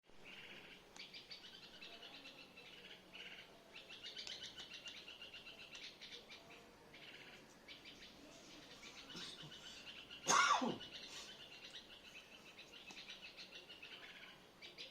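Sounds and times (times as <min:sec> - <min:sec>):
small birds chirping: 0:00.1 - 0:14.9.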